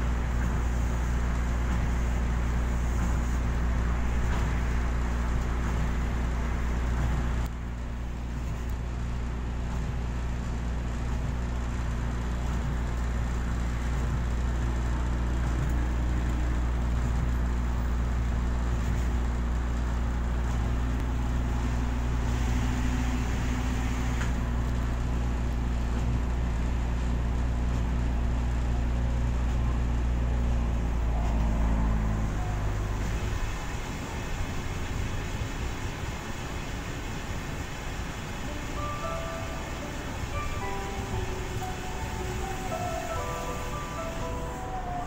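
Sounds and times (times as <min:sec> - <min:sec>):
monorail train running hum: 0:00.0 - 0:45.0.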